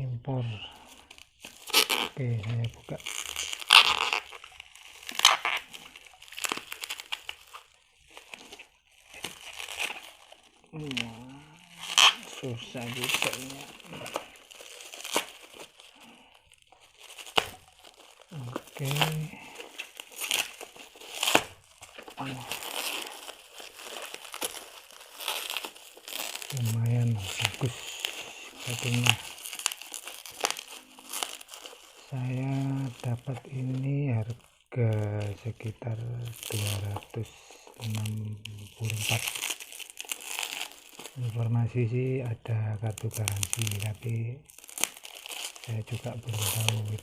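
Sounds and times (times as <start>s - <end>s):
packaging crinkling: 0.5s - 47.0s.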